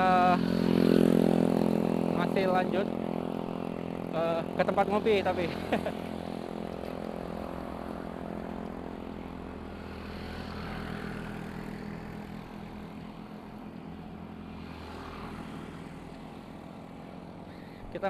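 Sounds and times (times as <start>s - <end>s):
motor vehicle engine hum: 0.0s - 18.0s.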